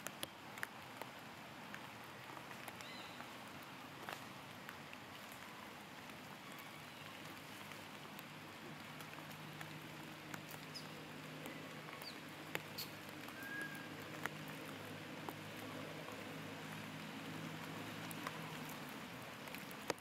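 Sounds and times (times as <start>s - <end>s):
soft hiss: 0.0s - 20.0s.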